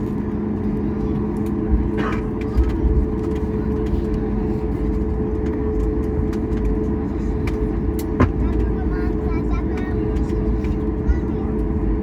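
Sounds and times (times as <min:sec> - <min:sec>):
aircraft cabin rumble: 0:00.0 - 0:12.0
engine hum: 0:00.0 - 0:12.0.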